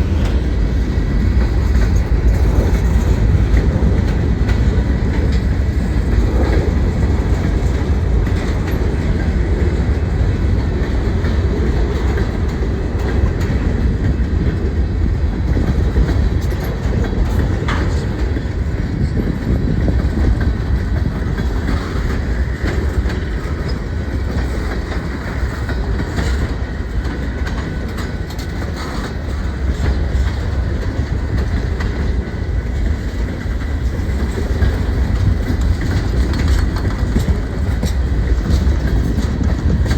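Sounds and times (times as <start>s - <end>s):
train rumbling past: 0.0s - 39.9s
wheels clicking over rails: 0.0s - 39.9s.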